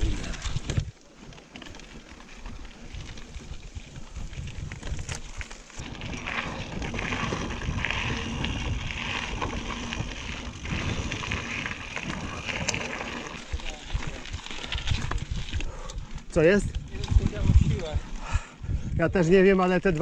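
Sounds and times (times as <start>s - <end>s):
wind noise on microphone: 0.0s - 0.9s, 2.8s - 19.8s
bike tyres rolling on dirt: 0.0s - 20.0s.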